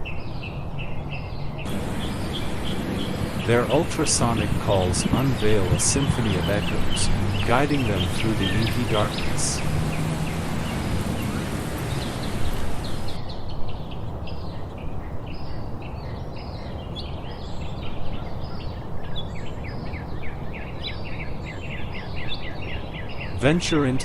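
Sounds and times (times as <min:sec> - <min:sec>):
steady noisy background: 0:00.0 - 0:24.0.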